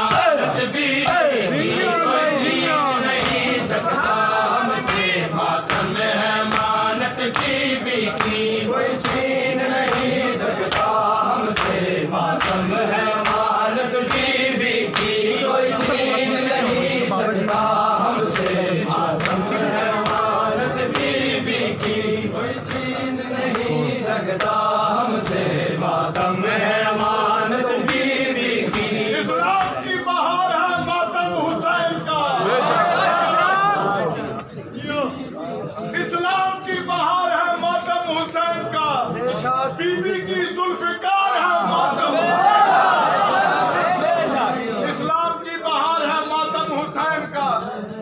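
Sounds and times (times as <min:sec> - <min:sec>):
men chanting in unison: 0:00.0 - 0:48.0.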